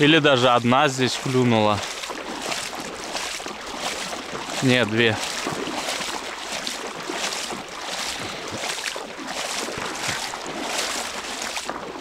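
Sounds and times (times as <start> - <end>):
water splashing around boat: 0.0 - 12.0.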